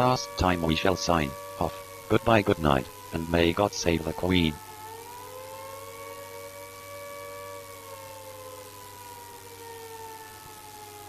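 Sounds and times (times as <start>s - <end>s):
siren wailing: 0.0s - 11.0s
steady low hum: 0.0s - 11.0s.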